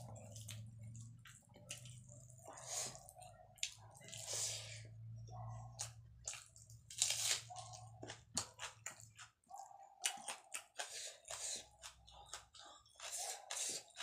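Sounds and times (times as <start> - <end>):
person chewing rice: 0.0 - 14.0.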